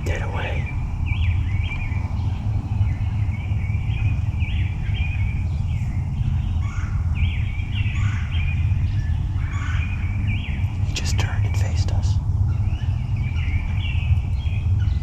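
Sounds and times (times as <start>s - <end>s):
songbirds singing: 0.0s - 15.0s
steady low rumble: 0.0s - 15.0s.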